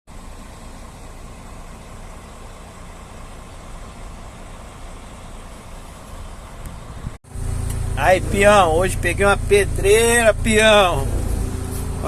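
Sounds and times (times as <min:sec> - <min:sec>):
crane diesel engine running: 0:00.1 - 0:12.0.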